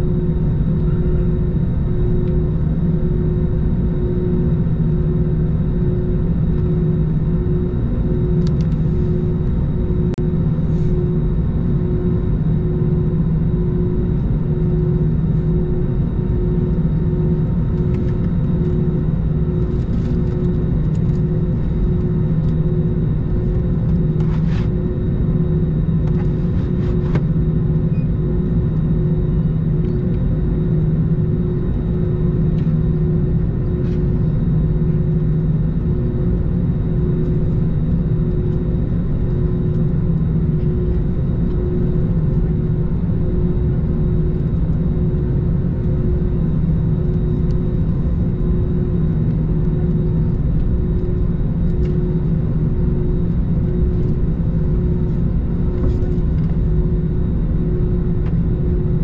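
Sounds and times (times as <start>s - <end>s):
jet engines idling rumble: 0.0s - 59.0s
low hum: 0.0s - 59.0s
pulsing higher hum: 0.0s - 59.0s.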